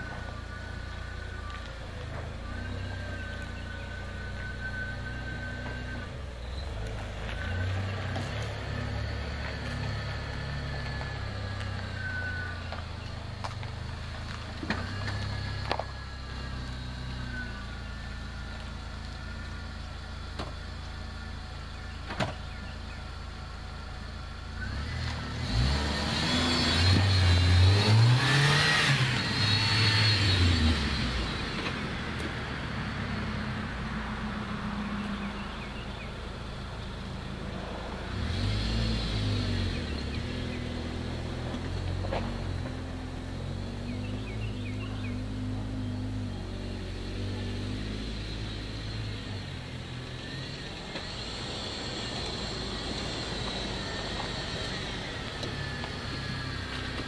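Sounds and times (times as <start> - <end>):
engine revving under load: 0.0 - 21.0, 24.4 - 57.0.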